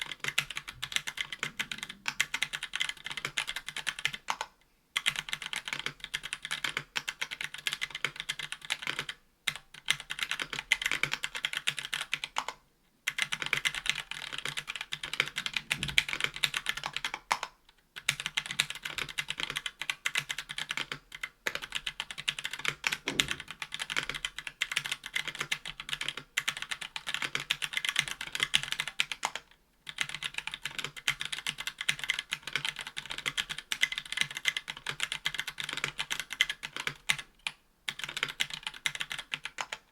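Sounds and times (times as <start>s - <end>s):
fast typing on mechanical keyboard: 0.0s - 39.8s.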